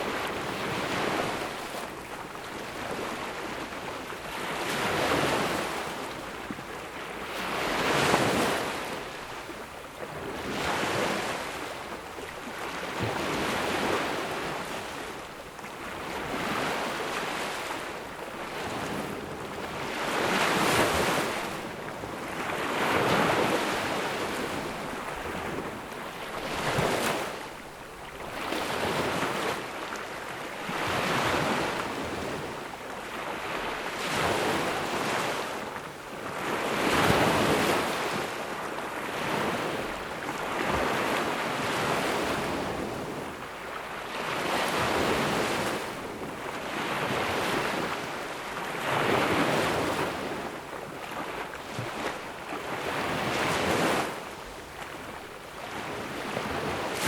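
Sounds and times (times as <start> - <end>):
ocean waves on sandy beach: 0.0 - 57.0.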